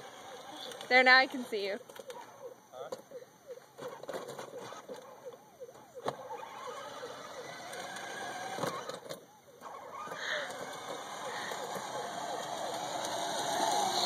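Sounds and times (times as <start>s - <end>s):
toy car electric motor whirring: 0.0s - 2.2s, 3.8s - 14.0s.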